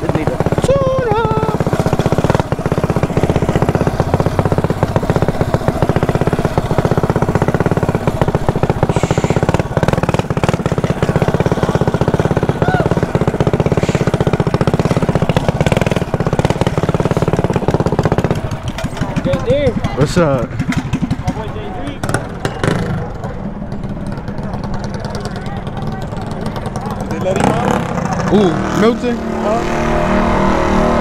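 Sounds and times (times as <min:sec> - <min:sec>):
mini bike engine running: 0:00.0 - 0:31.0.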